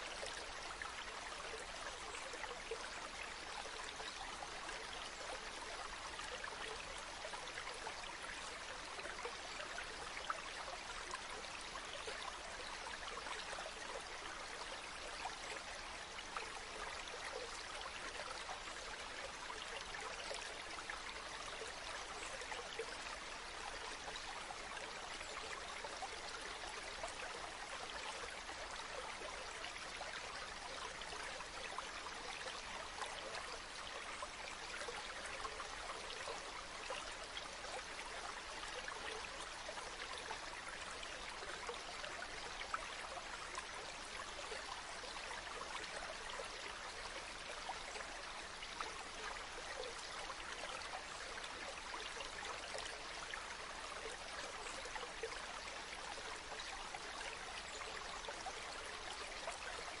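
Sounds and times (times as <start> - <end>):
stream flowing over stones: 0.0 - 60.0.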